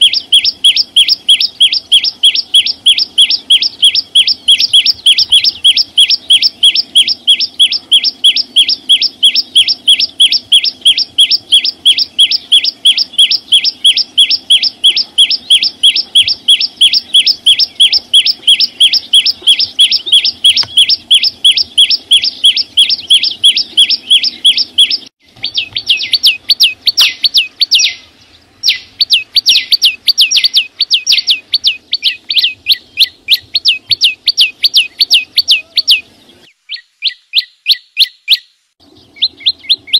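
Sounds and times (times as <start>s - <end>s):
songbird sharp high chirps: 0.0s - 39.9s.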